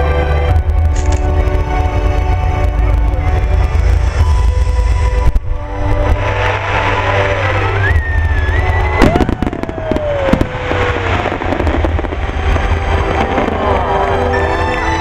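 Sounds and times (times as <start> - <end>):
deep rumble: 0.0 - 15.0
fireworks bursting and crackling: 0.5 - 15.0.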